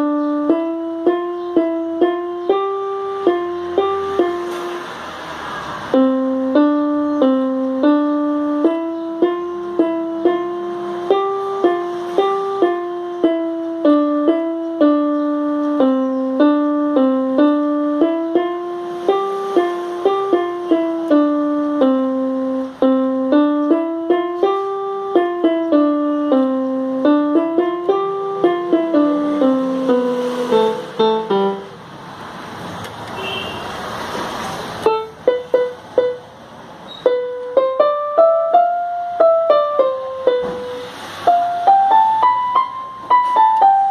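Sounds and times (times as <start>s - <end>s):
electronic keyboard slow melody: 0.0s - 32.0s, 34.8s - 43.9s.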